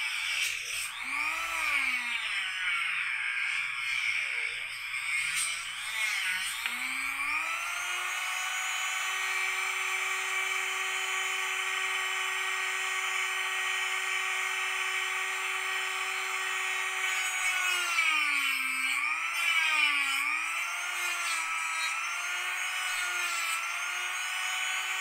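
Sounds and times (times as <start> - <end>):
rotary tool whining: 0.0 - 25.0
cutoff wheel cutting plexiglass: 4.8 - 25.0.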